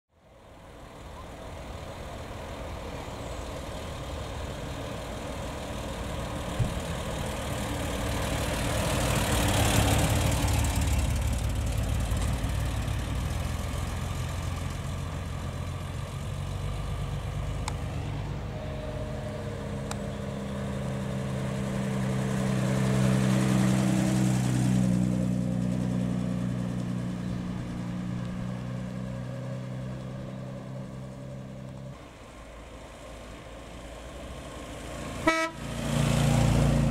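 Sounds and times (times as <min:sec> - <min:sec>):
cars driving past: 0:00.2 - 0:36.9.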